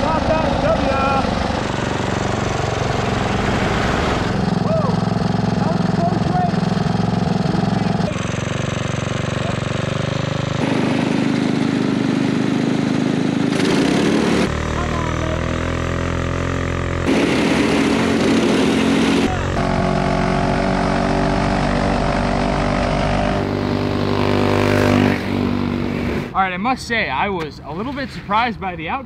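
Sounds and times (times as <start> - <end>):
go-kart engines revving: 0.0 - 26.6.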